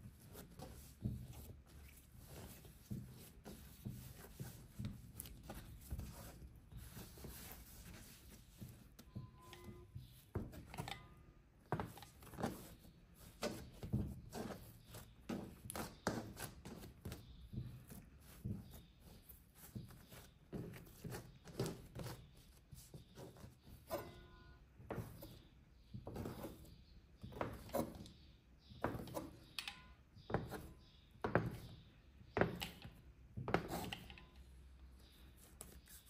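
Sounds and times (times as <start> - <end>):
dough kneaded by hand: 0.0 - 36.0.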